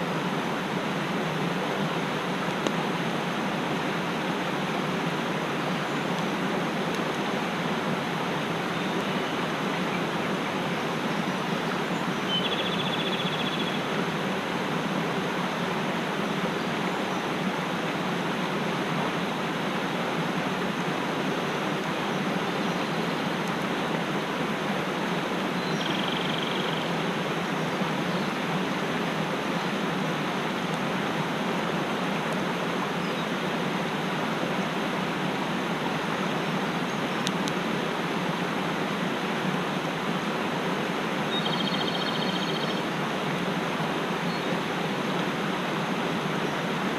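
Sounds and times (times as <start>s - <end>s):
mountain stream rushing: 0.0s - 46.9s.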